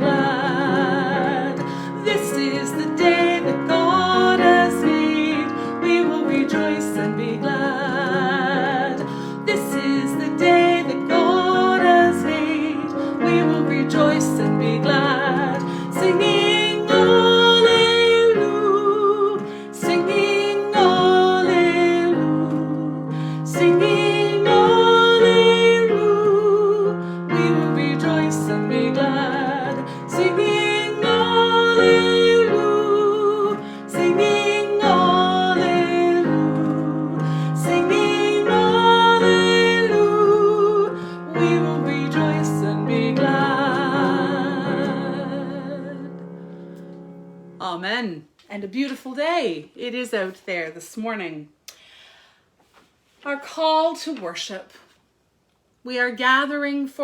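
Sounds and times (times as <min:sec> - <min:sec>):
woman singing with vibrato: 0:00.0 - 0:46.2
piano chords: 0:00.0 - 0:47.9.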